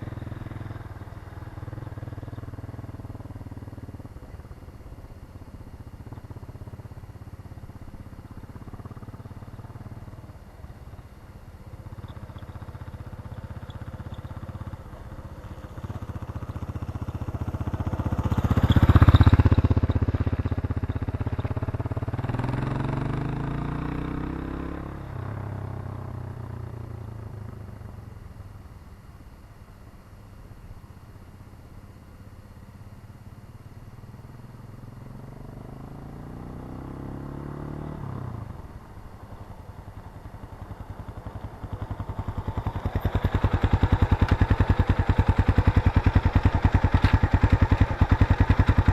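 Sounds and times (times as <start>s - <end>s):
motorcycle engine passing: 0.0s - 28.0s, 33.6s - 48.9s.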